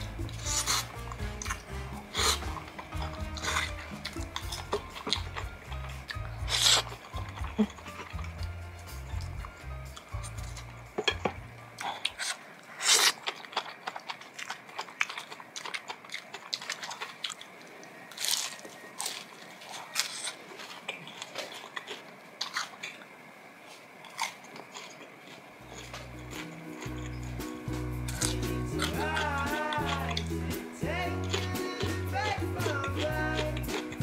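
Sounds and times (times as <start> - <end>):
crunchy chewing: 0.0 - 34.0.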